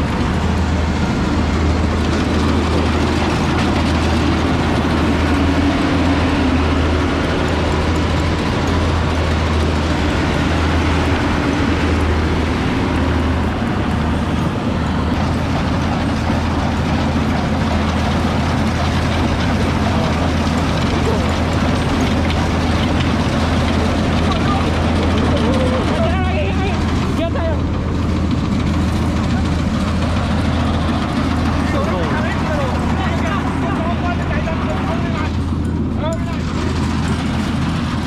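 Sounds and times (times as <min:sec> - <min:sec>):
combine harvester engine drone: 0:00.0 - 0:38.0.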